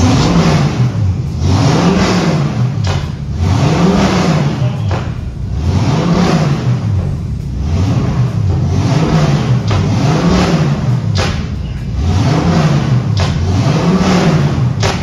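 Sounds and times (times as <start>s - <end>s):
motorcycle engine revving: 0.0s - 15.0s
sharp exhaust cracks: 0.0s - 15.0s.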